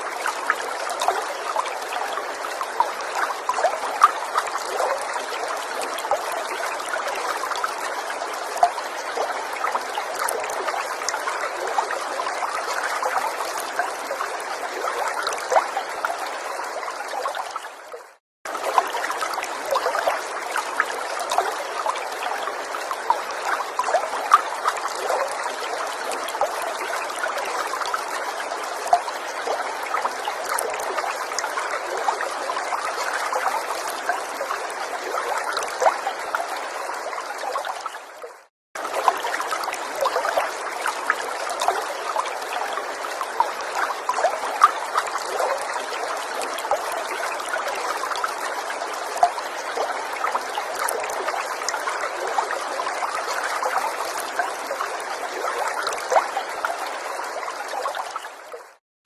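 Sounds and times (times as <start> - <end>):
stream trickling and babbling: 0.0 - 58.8.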